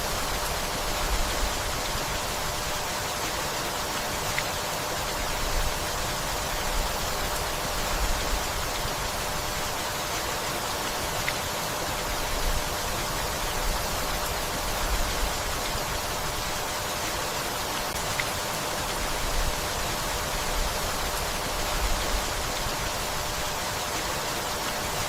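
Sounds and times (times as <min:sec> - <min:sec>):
steady rainfall hiss: 0:00.0 - 0:25.0.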